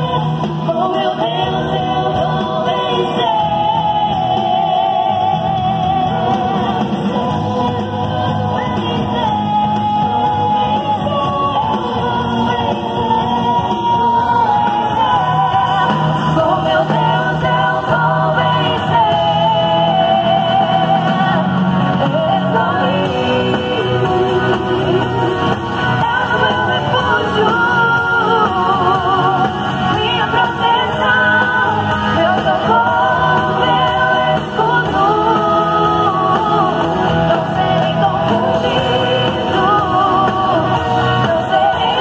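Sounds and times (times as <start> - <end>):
gospel band with guitars and drums: 0.0 - 42.0
woman singing with vibrato: 0.0 - 42.0.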